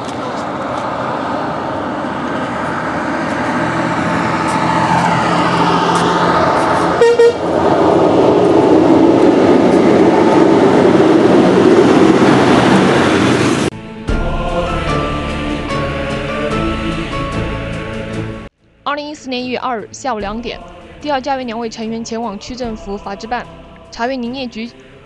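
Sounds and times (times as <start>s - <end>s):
engine and road noise: 0.0s - 25.0s.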